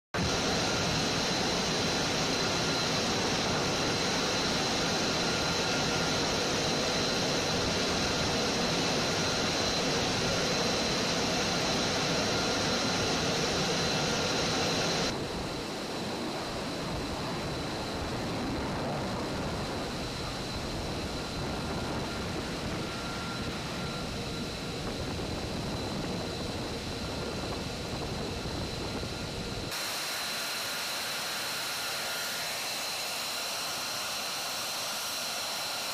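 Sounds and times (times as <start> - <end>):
high-pitched whine: 0.2 - 35.9
jet engine noise: 0.2 - 35.9.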